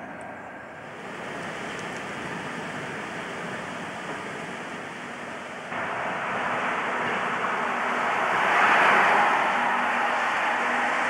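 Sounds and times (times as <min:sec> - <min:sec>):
diesel locomotive engine: 0:00.0 - 0:11.0
train rushing: 0:00.0 - 0:11.0.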